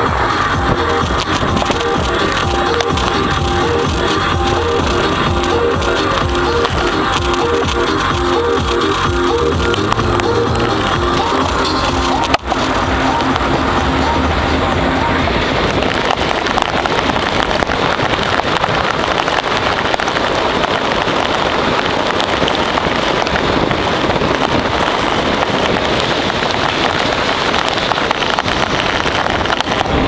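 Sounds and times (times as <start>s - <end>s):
snow spraying against car: 0.0s - 30.0s.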